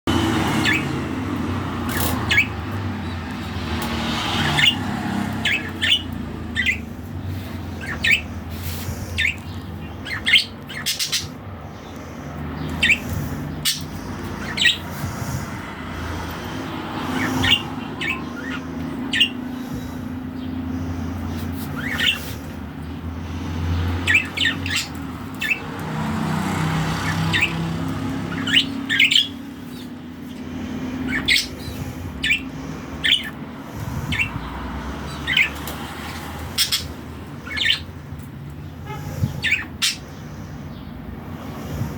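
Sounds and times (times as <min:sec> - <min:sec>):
low rumble of traffic: 0:00.0 - 0:41.9
small birds chirping: 0:00.1 - 0:41.9.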